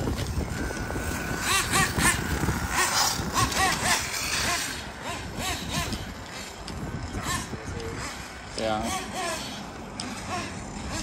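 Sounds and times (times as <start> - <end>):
rc car engines revving: 0.0 - 11.0.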